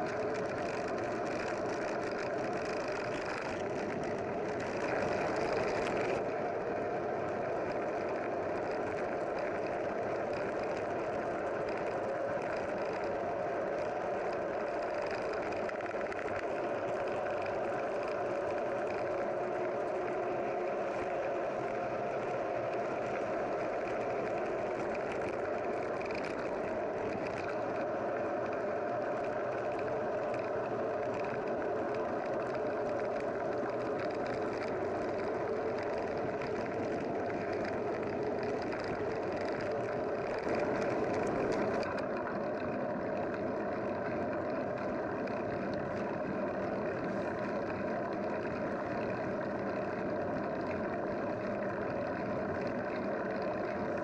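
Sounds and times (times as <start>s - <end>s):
road vehicle running noise: 0.0s - 54.0s.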